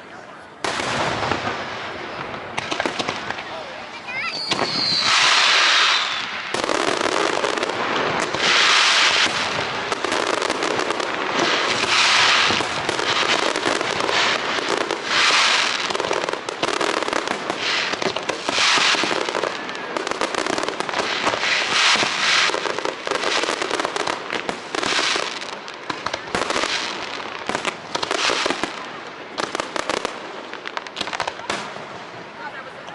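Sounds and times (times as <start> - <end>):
fireworks popping and crackling: 0.6 - 32.9
hissing crackle bursts: 0.8 - 32.1.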